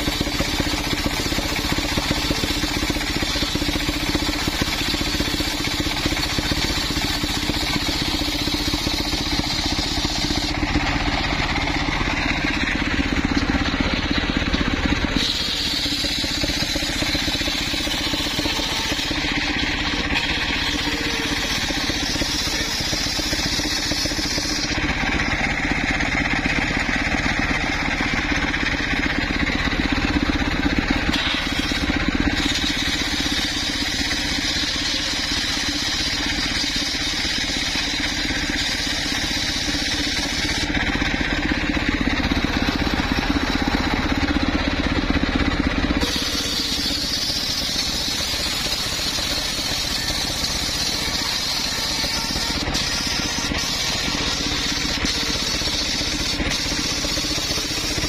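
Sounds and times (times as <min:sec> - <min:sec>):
saw blade cutting wood: 0:00.0 - 0:58.0
sawmill motor drone: 0:00.0 - 0:58.0.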